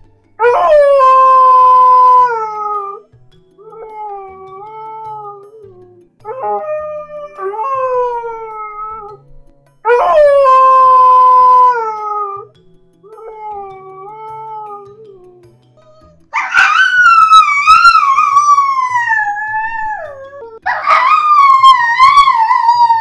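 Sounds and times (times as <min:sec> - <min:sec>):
dog howling: 0:00.4 - 0:03.0, 0:03.6 - 0:09.2, 0:09.9 - 0:23.0.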